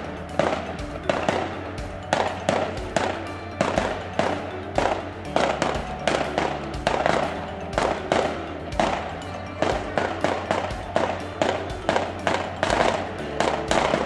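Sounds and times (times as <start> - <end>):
sustained bass line: 0.0 - 14.0.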